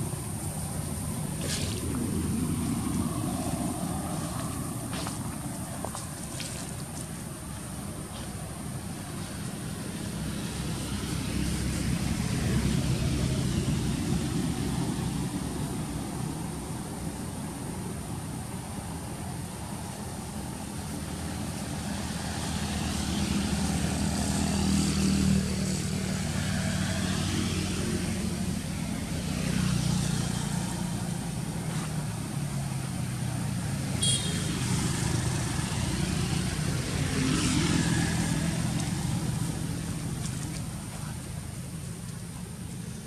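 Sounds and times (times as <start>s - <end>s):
traffic passing: 0.0s - 43.0s.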